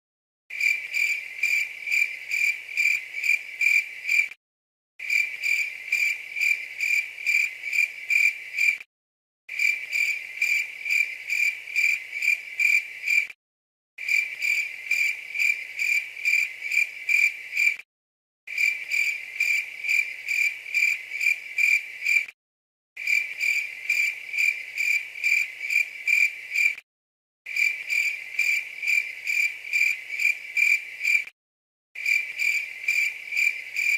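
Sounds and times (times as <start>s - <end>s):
cricket chirping: 0.5s - 4.3s, 5.0s - 8.8s, 9.5s - 13.3s, 14.0s - 17.8s, 18.5s - 22.3s, 23.0s - 26.8s, 27.5s - 31.3s, 32.0s - 33.9s.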